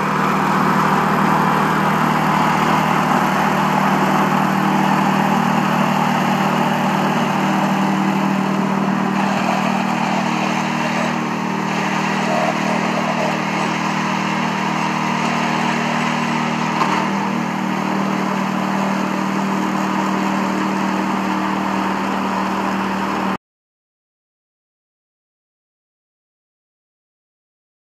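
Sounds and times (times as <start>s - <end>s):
petrol engine running steadily: 0.0s - 23.4s.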